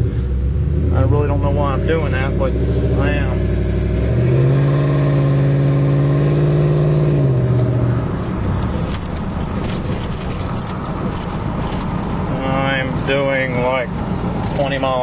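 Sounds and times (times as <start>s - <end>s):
pickup exhaust droning: 0.0s - 15.0s
road noise: 0.0s - 15.0s.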